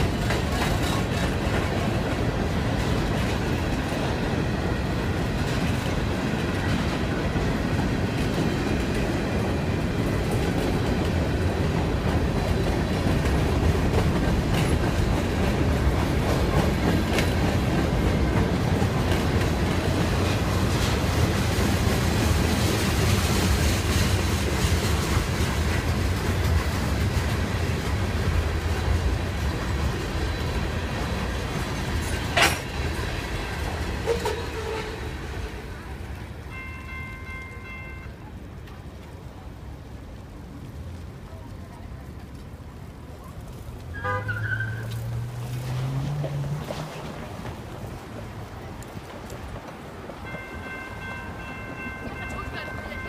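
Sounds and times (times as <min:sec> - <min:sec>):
freight train cars rolling past: 0:00.0 - 0:53.0.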